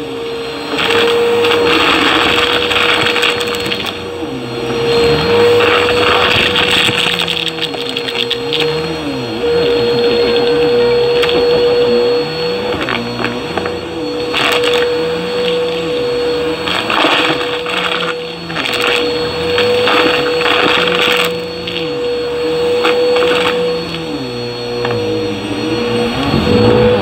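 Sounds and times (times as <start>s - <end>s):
vacuum cleaner running: 0.0s - 27.0s
debris rattling in vacuum: 0.4s - 27.0s.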